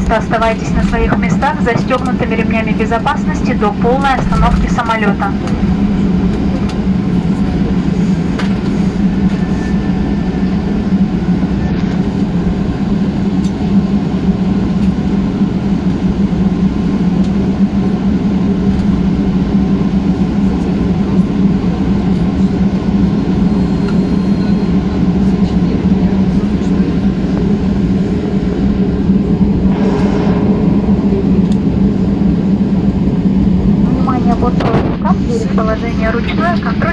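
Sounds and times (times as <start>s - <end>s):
aircraft cabin engine drone: 0.0s - 36.9s.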